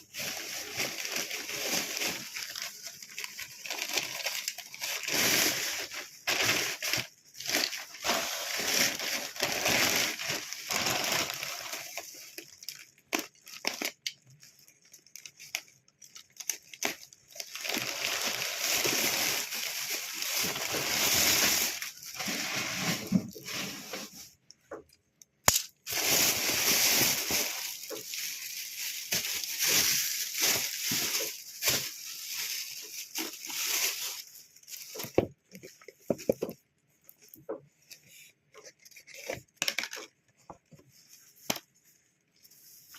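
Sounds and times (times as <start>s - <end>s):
packaging rustling and crinkling: 0.0s - 24.4s, 25.5s - 42.9s.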